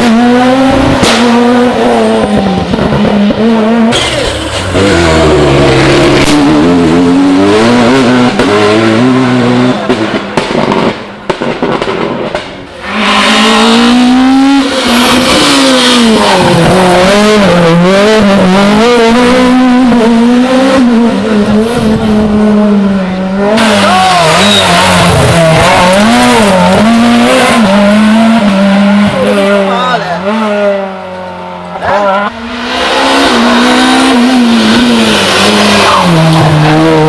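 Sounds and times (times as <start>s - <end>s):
rally car engine revving: 0.0s - 37.0s.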